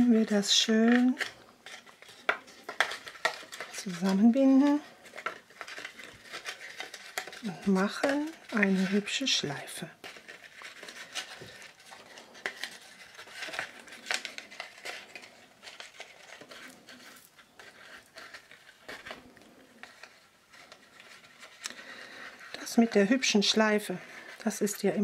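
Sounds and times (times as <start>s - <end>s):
paper and ribbon rustling: 0.0s - 25.0s.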